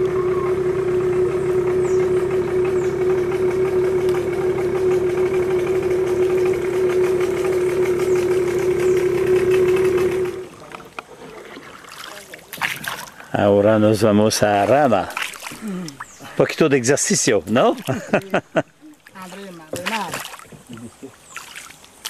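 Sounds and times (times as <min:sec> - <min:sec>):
outboard motor running: 0:00.0 - 0:21.7
faint water sounds: 0:00.0 - 0:22.0.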